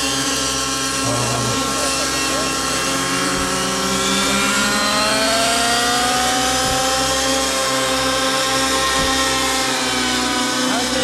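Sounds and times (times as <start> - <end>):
model helicopter engine and rotor whine: 0.0 - 11.0.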